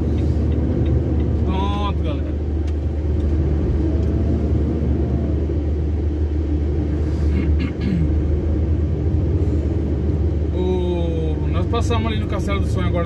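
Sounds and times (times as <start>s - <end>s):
truck diesel engine rumble: 0.0s - 13.0s.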